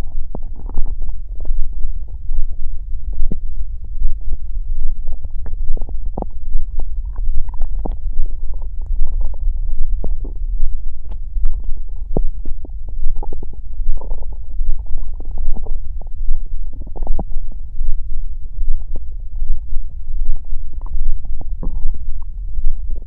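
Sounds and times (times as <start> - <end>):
stomach growling and gurgling: 0.0 - 23.0.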